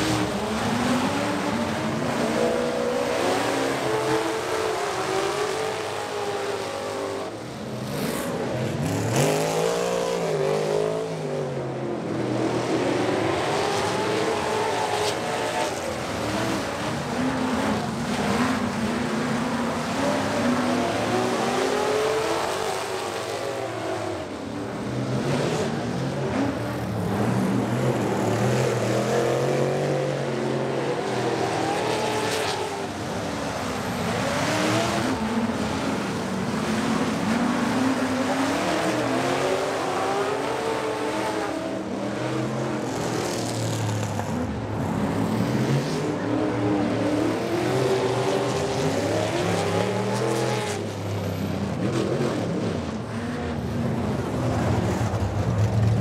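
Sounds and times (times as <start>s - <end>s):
race truck engines revving: 0.0s - 56.0s.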